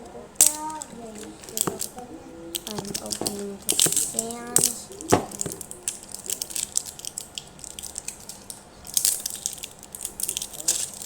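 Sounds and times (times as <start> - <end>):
plastic packet clicks and rustles: 0.4 - 11.0.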